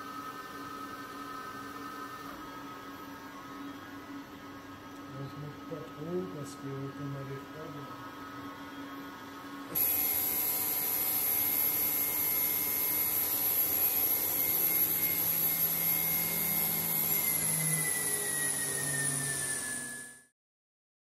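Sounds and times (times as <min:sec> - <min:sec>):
machine spindle whine: 0:00.0 - 0:20.3.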